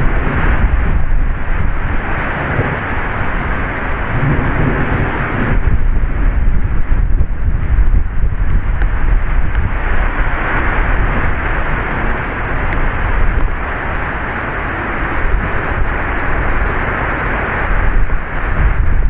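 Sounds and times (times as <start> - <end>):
heavy rain pouring: 0.0 - 19.0
wind buffeting microphone: 0.0 - 19.0.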